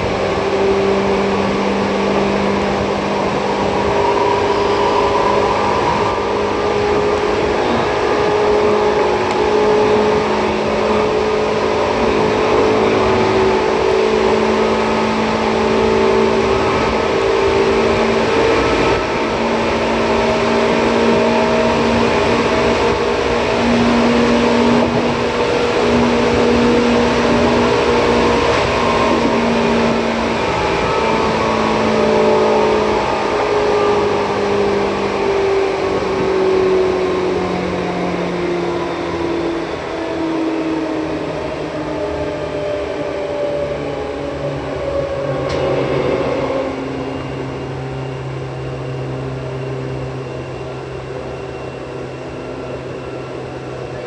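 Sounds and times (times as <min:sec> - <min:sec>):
motor whine: 0:00.0 - 0:54.0
train wheels rumbling on rail: 0:00.0 - 0:54.0.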